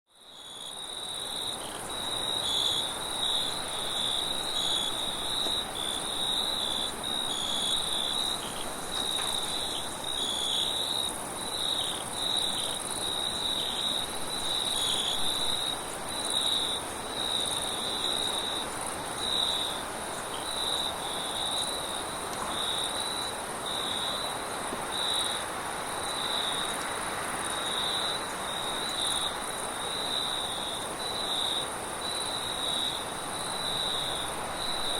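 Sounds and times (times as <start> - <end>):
high continuous insect trill: 0.1 - 34.9
crickets chirping: 0.2 - 34.9.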